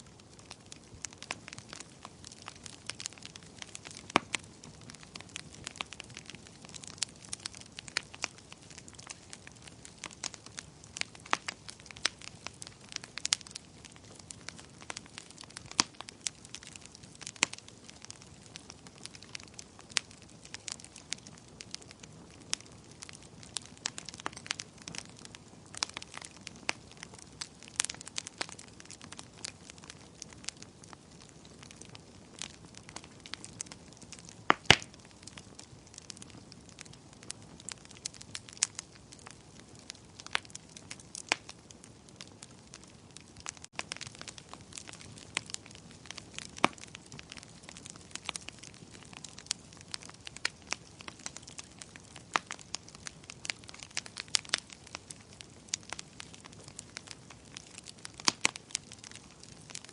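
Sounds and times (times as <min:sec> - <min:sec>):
low hiss of burning: 0:00.0 - 0:59.9
wood fire popping and snapping: 0:00.0 - 0:59.9.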